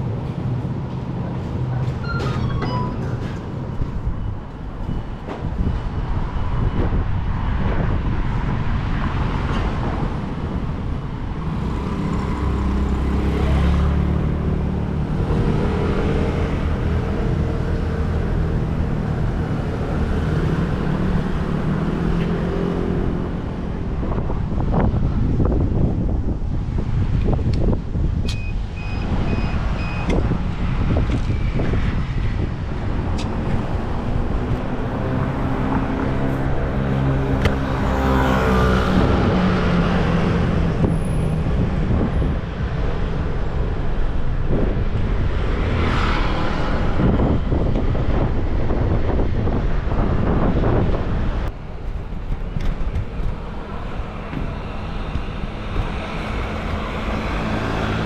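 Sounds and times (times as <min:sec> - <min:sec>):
heavy vehicle engine droning: 0:00.0 - 0:26.4, 0:31.6 - 0:58.0
cars passing: 0:00.0 - 0:58.0.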